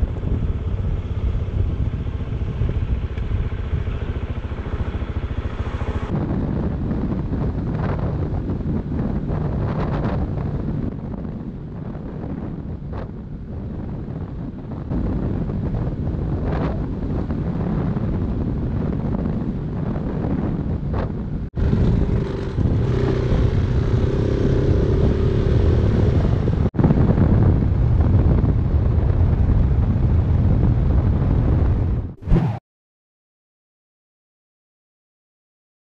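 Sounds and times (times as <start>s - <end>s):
motorcycle engine running: 0.0s - 29.8s
wind buffeting microphone: 0.0s - 32.6s.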